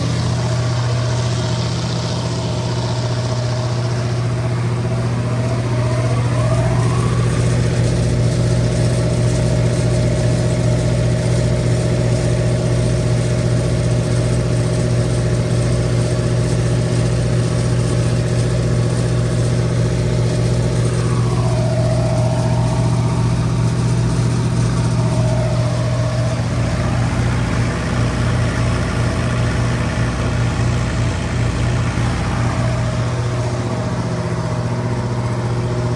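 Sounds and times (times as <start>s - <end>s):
diesel generator humming: 0.0s - 35.9s.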